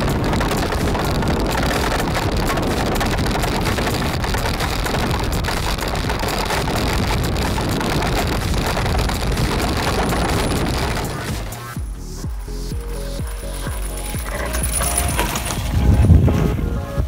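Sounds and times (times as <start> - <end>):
wheels rolling over gravel: 0.0 - 11.8, 12.7 - 17.0
wind on microphone: 0.0 - 17.0.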